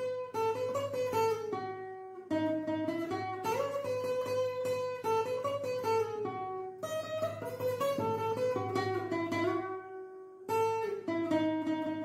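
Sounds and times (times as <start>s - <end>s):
acoustic guitar plucking melody: 0.0s - 12.0s.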